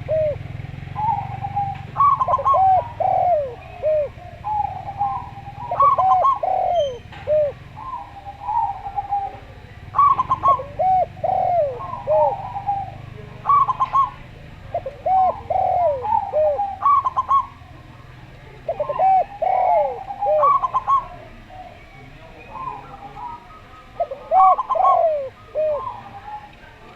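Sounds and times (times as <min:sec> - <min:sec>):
doves cooing: 0:00.0 - 0:26.9.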